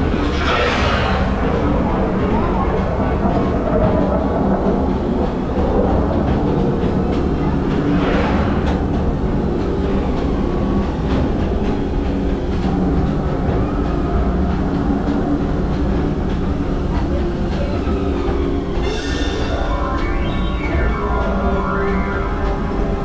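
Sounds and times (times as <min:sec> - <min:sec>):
music: 0:00.0 - 0:23.0
train car rumbling on track: 0:00.0 - 0:23.0.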